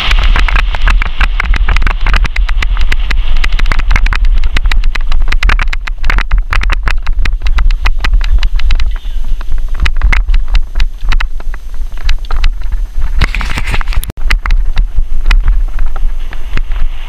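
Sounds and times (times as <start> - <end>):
bicycle rattling clicks: 0.0 - 16.9
wind buffeting microphone: 0.0 - 17.0.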